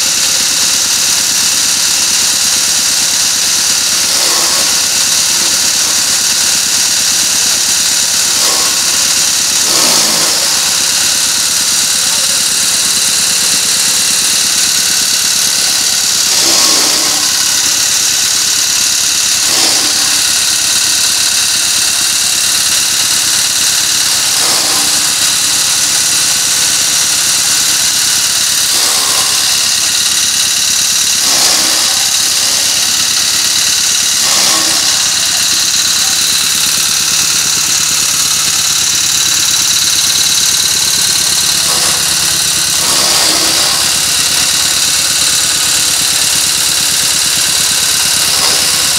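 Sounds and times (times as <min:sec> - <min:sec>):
chaff cutter chopping straw: 0:00.0 - 0:48.9
generator running: 0:00.0 - 0:48.9.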